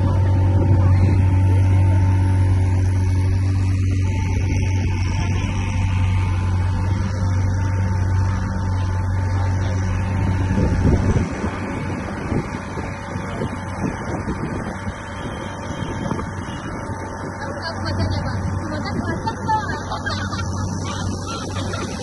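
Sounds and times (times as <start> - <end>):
boat engine humming: 0.0 - 22.0
uneven rumbling: 0.0 - 22.0.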